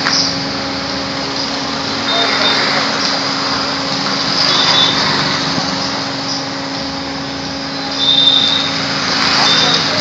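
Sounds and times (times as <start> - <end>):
motorcycle engines running: 0.0 - 10.0
street traffic: 0.0 - 10.0.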